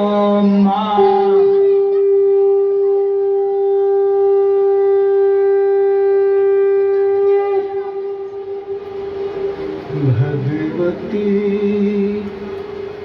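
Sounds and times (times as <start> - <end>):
conch shell blown: 0.0 - 10.9.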